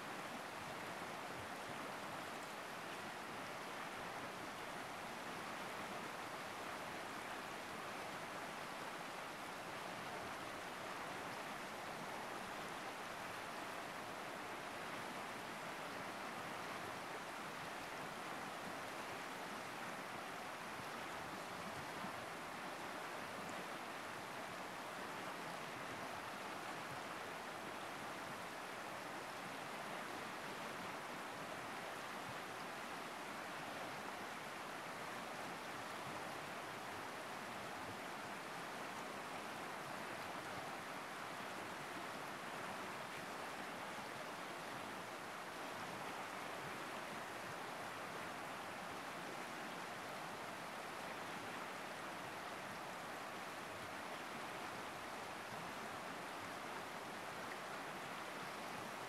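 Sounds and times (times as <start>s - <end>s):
river rushing over rapids: 0.0s - 59.0s.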